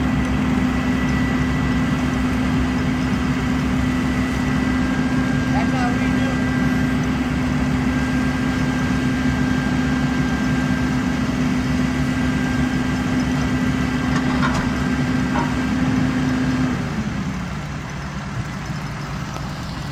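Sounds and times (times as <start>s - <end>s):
engine running: 0.0s - 19.9s.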